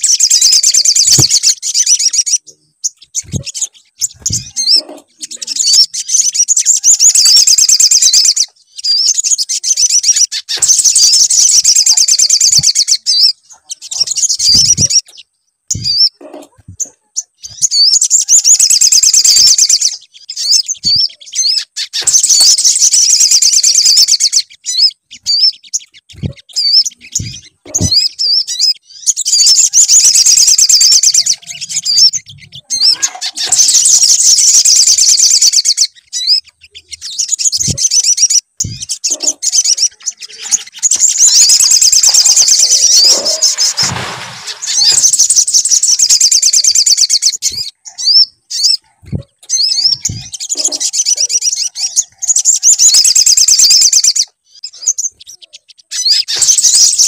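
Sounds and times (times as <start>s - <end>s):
songbird singing rapid high chatter: 0.0s - 57.0s.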